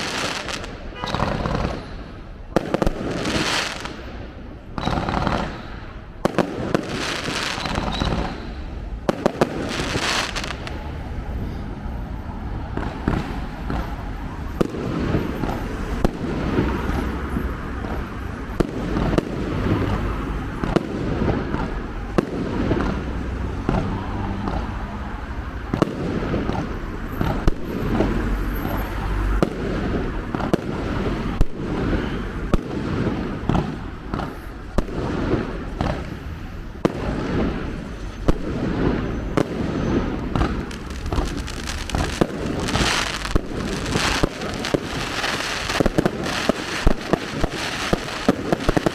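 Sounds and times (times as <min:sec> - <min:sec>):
fireworks bangs and pops: 0:00.0 - 0:11.6, 0:12.6 - 0:48.9
fireworks crackling volley: 0:00.0 - 0:48.9
steady background noise: 0:00.0 - 0:48.9.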